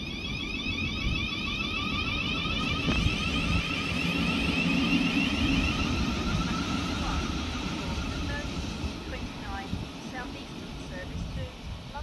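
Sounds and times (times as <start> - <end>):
electric train motor whine: 0.0 - 12.0
wheels rumbling on rail: 0.0 - 12.0.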